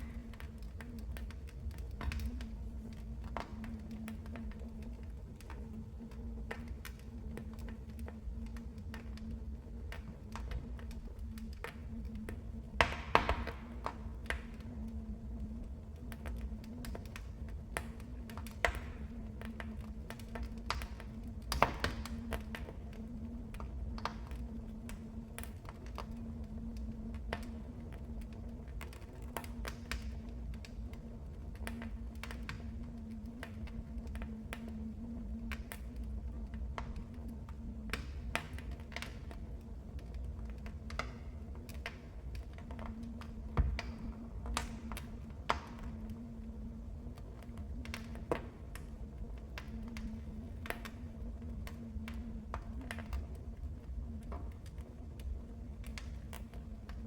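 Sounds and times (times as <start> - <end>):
fire rumbling: 0.0 - 57.0
wood fire crackling and popping: 0.0 - 57.0.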